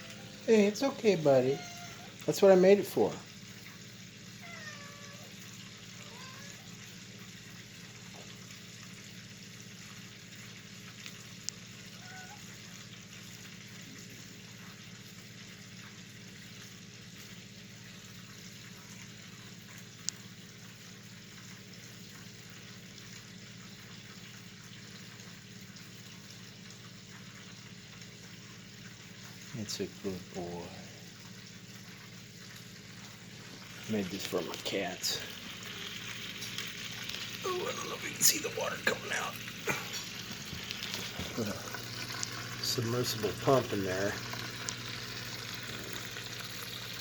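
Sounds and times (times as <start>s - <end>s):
low pump hum: 0.0s - 47.0s
water trickling and splashing: 0.0s - 47.0s.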